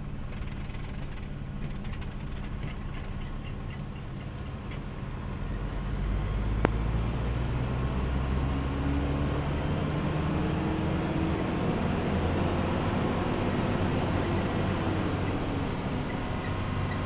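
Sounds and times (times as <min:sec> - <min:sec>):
car engine drone: 0:00.0 - 0:17.0
tyre road noise: 0:00.0 - 0:17.0.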